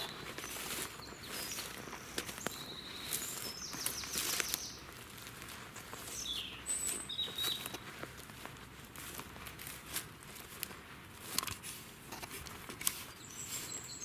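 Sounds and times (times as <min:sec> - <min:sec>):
rustling through brush: 0:00.0 - 0:14.0
songbirds chirping: 0:00.0 - 0:14.0.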